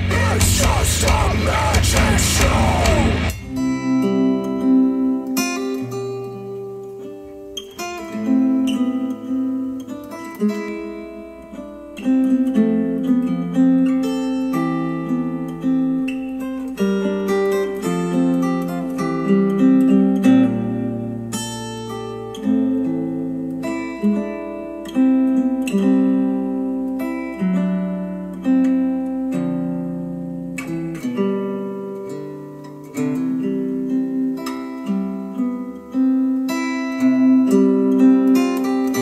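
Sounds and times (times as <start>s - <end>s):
acoustic guitar music: 0.0s - 39.0s.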